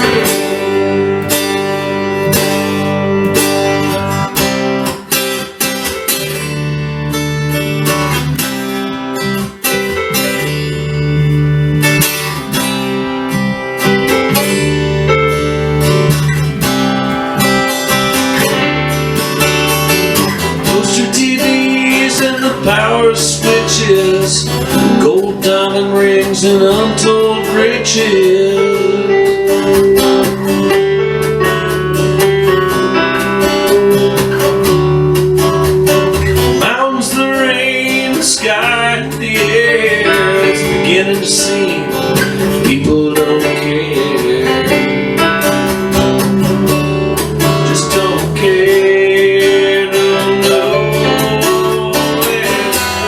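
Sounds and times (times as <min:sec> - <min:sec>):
acoustic guitar strumming: 0:00.0 - 0:53.0.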